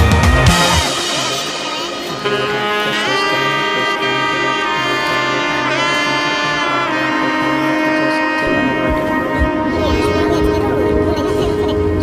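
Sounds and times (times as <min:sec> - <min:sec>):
pitch-bending lead melody: 0:00.0 - 0:12.0
pulsing bass line: 0:00.0 - 0:12.0.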